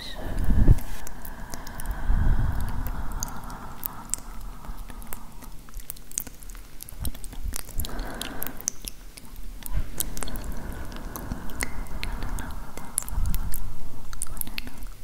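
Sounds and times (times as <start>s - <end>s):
soft breathy hiss: 0.0s - 15.0s
wet lip and tongue clicks: 0.1s - 15.0s.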